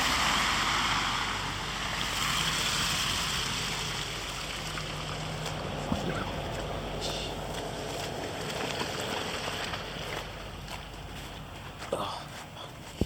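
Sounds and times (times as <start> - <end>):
tyres hissing on slushy road: 0.0 - 10.6
low car hum: 0.0 - 13.0.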